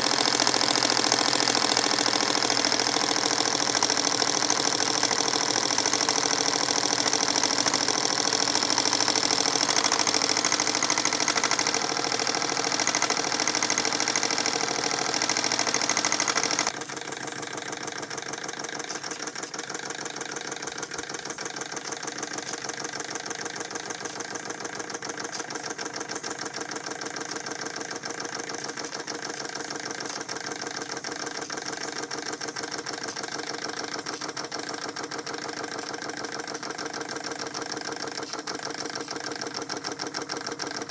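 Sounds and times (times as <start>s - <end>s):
model steam engine running: 0.0s - 40.9s.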